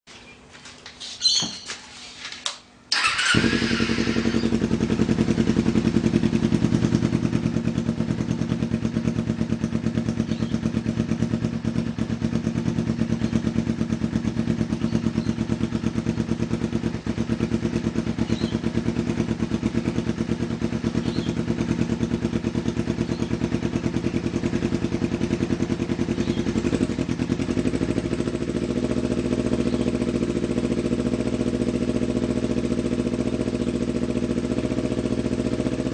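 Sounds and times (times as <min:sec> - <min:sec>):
motorcycle engine idling: 0:02.9 - 0:35.9.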